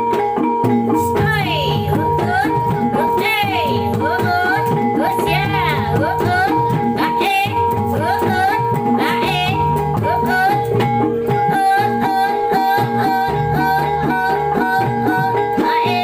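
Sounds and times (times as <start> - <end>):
repeating drum pattern: 0.0 - 16.0.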